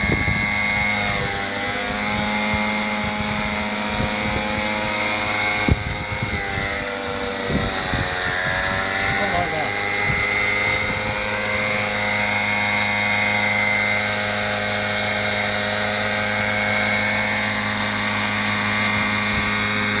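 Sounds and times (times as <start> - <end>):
model helicopter engine and rotors: 0.0 - 20.0.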